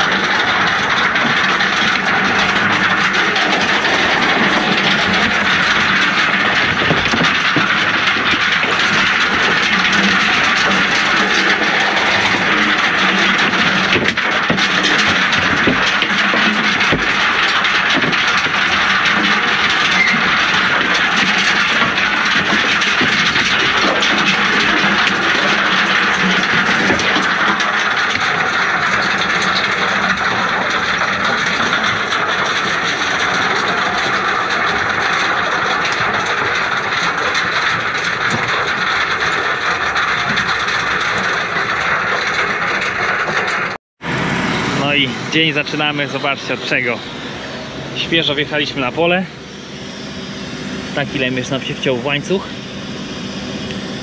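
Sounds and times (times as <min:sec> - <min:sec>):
stones rattling in a sieve drum: 0:00.0 - 0:43.7
machine hum: 0:00.0 - 0:54.0.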